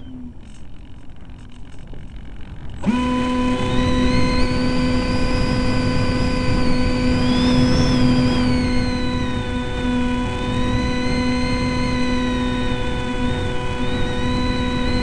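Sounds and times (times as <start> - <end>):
electric motor and propeller whine: 0.0 - 15.0.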